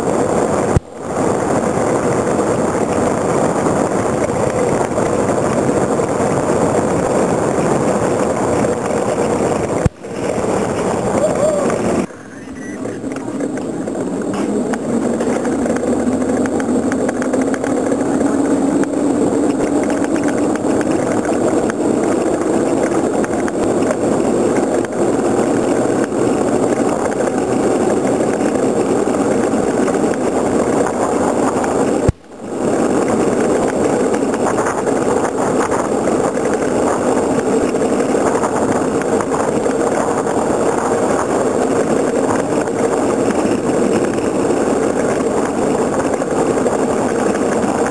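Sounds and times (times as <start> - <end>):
rising hum: 0.0 - 39.6
rushing wind: 0.0 - 47.9
wheels rumbling on asphalt: 0.0 - 47.9.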